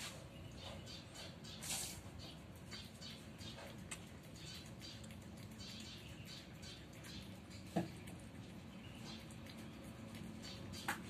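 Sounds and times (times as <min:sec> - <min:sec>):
cat chewing and licking: 0:00.1 - 0:11.0.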